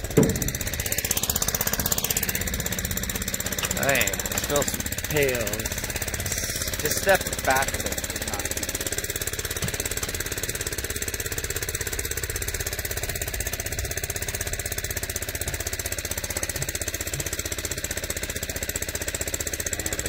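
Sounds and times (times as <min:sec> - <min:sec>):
engine-driven pump chugging: 0:00.0 - 0:20.0.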